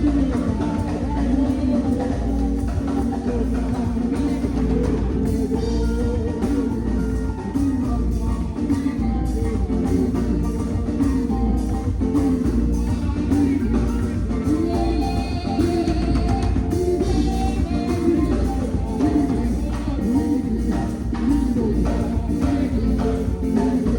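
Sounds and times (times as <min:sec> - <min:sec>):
band music with guitar and drums: 0:00.0 - 0:23.9
wandering lead melody: 0:00.0 - 0:23.9.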